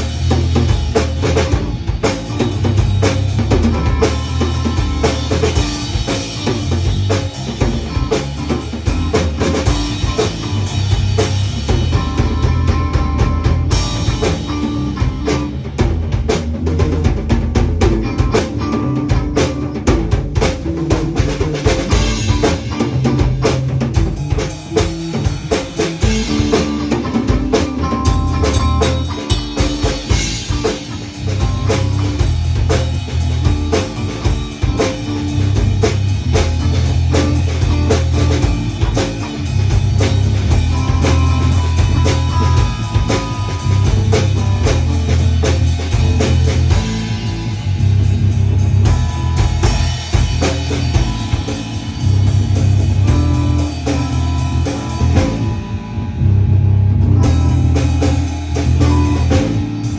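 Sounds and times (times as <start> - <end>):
rock drum solo: 0.0 - 59.9.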